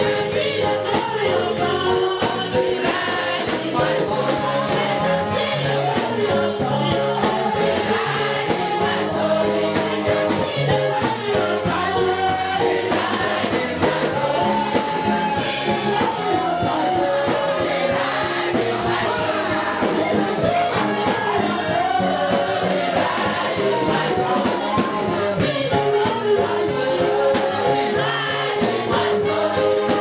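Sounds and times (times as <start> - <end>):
band with bass line: 0.0 - 30.0
gospel choir singing: 0.0 - 30.0.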